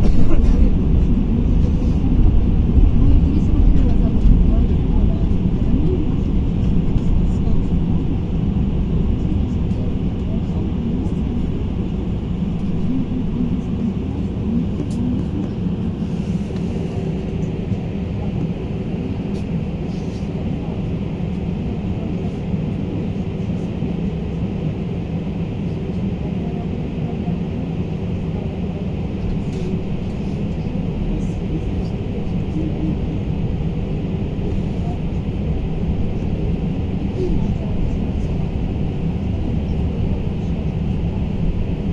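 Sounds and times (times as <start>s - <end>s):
bus cabin and road rumble: 0.0s - 41.9s.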